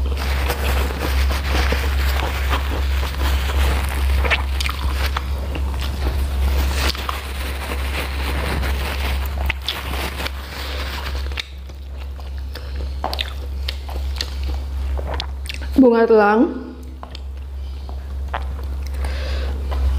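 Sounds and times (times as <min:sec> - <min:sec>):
person chewing and biting food: 0:00.0 - 0:15.8, 0:16.8 - 0:19.9
low hum: 0:00.0 - 0:19.9.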